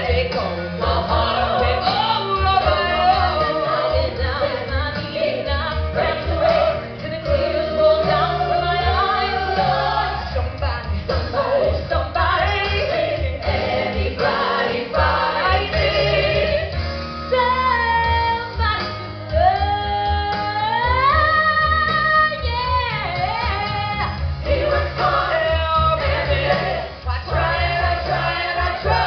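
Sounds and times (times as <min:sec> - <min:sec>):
drums: 0:00.0 - 0:29.0
live rock band: 0:00.0 - 0:29.0.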